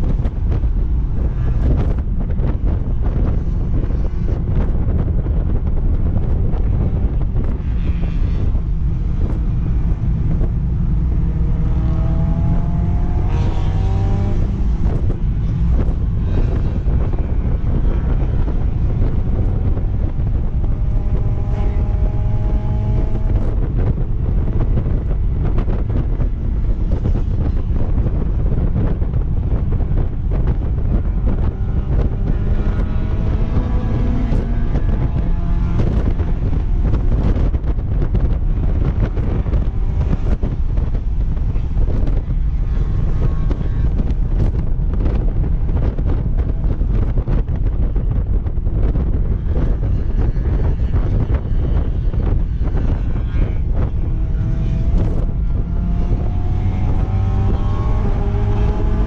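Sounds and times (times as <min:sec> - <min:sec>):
car engine revving under load: 0:00.0 - 0:59.0
wind buffeting microphone: 0:00.0 - 0:59.0.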